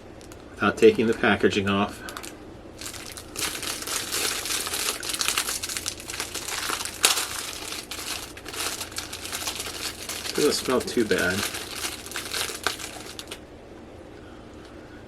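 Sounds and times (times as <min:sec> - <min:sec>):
plastic wrapper crinkling: 0:00.0 - 0:13.4.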